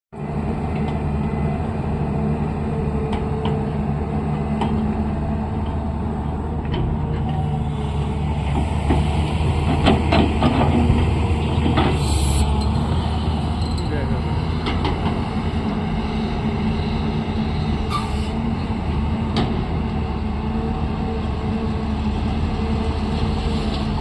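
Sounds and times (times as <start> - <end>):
heavy machine engine running: 0.2 - 24.0.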